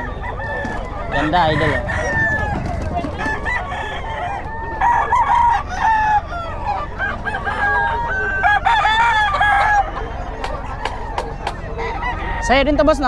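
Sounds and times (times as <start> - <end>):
roosters crowing: 0.0 - 13.0.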